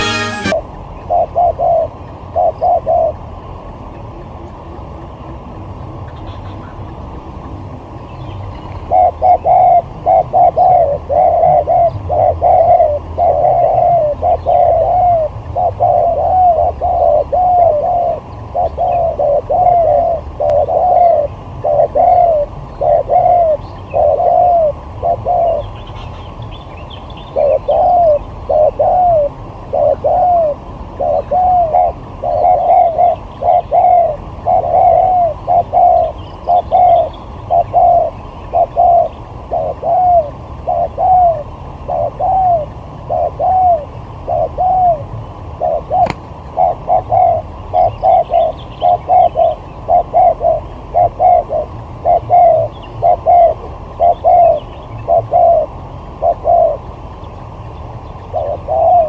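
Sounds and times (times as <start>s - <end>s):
doves cooing: 0.0s - 3.3s, 8.7s - 25.8s, 27.3s - 56.9s, 58.2s - 59.0s.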